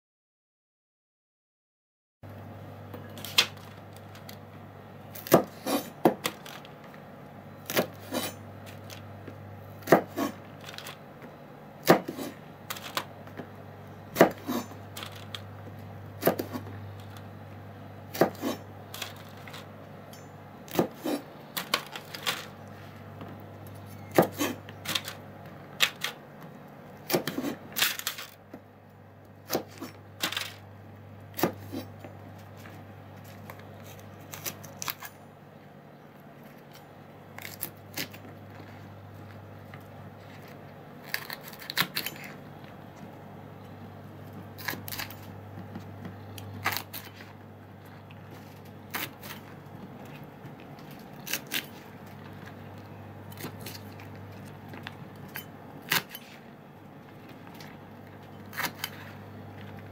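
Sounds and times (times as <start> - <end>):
low steady hum: 2.2 - 59.9.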